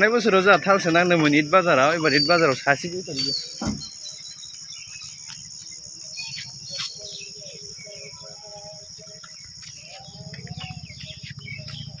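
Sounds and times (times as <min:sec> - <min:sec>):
high-pitched insect drone: 0:00.0 - 0:12.0
bird chirps: 0:00.7 - 0:12.0.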